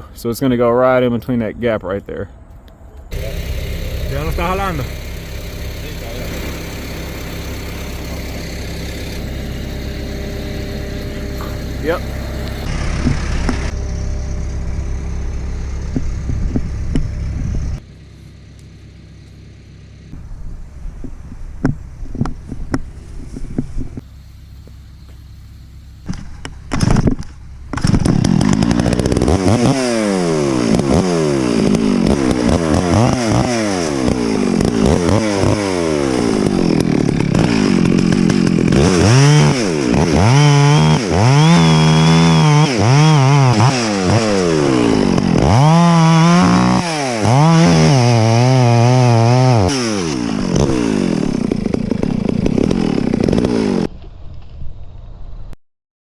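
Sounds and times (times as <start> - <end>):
chainsaw cutting wood: 3.1 - 20.2, 26.1 - 54.0.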